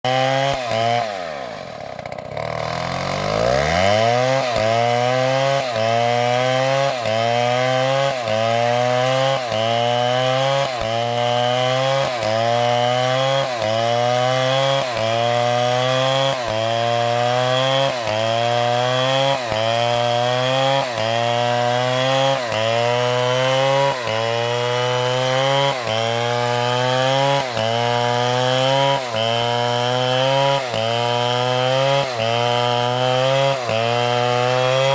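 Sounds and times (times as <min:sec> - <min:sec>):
two-stroke chainsaw engine revving: 0:00.0 - 0:34.9.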